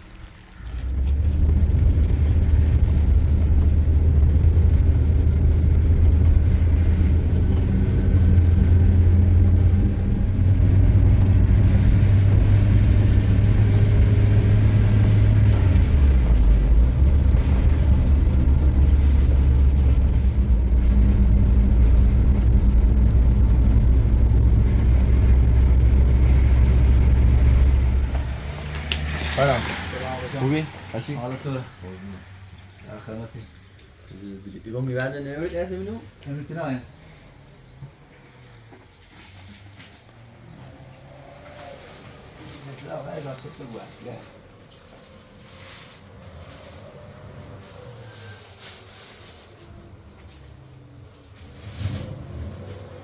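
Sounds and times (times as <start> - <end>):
engine droning under load: 0.1 - 39.0, 39.7 - 53.0.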